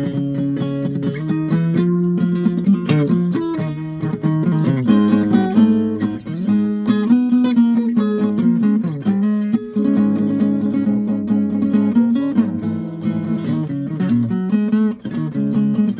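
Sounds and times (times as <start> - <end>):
acoustic guitar: 0.0 - 15.9.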